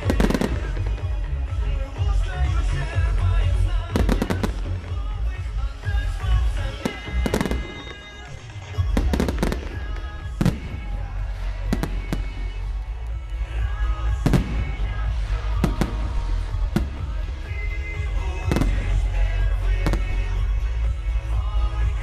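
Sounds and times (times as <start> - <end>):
fireworks bangs: 0.0 - 1.2, 3.8 - 20.7.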